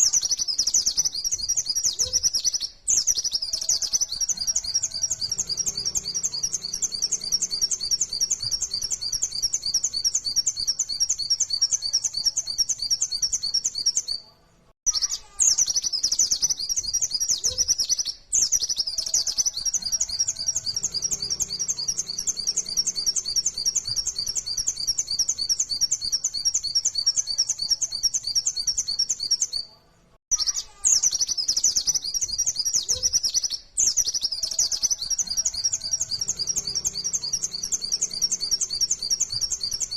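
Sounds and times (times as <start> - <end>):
bird singing fast chirps: 0.0 - 14.2, 14.9 - 29.7, 30.3 - 39.9.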